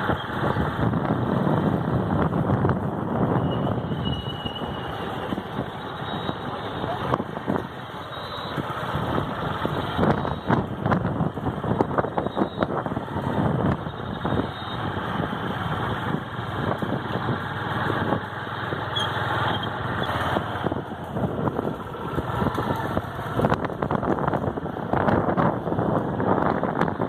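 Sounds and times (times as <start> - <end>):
road noise on rough road: 0.0 - 27.0
vehicle engine: 0.0 - 27.0.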